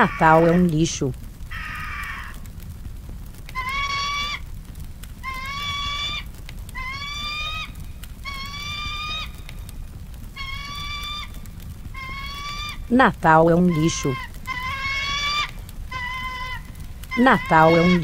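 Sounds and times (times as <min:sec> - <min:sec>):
high-pitched eagle calls: 0:00.0 - 0:02.4, 0:03.5 - 0:04.5, 0:05.2 - 0:09.7, 0:10.3 - 0:18.0
low steady rumble: 0:00.0 - 0:18.0.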